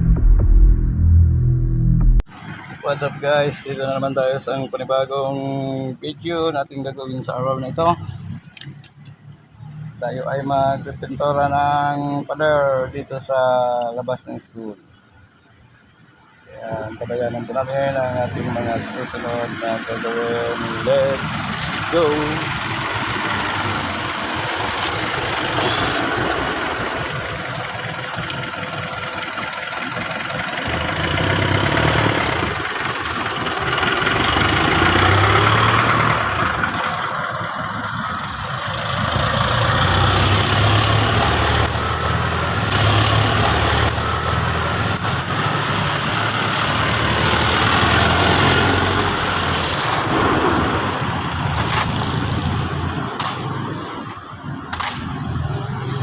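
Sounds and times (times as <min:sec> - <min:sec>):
engine rumbling: 0:00.0 - 0:56.0.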